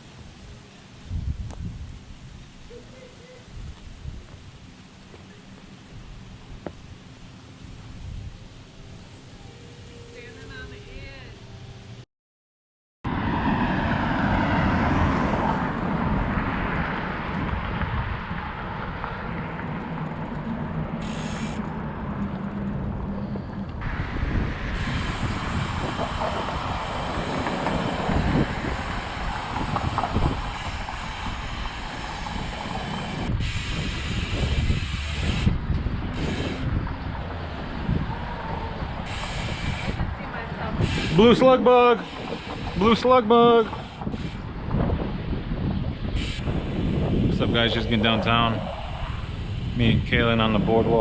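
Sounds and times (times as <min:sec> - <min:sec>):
moving vehicle road noise: 0:00.0 - 0:12.0, 0:13.1 - 0:51.0.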